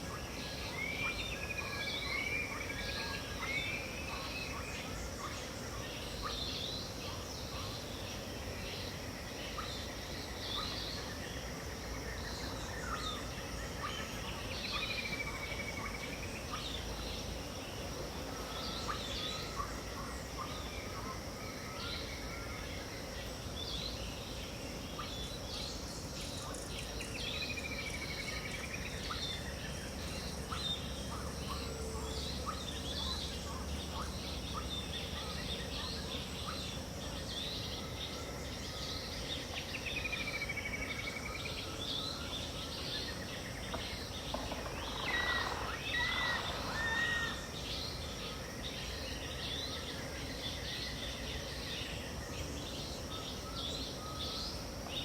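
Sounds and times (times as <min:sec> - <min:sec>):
insect drone: 0:00.0 - 0:55.0
wild birds chirping: 0:00.0 - 0:55.0.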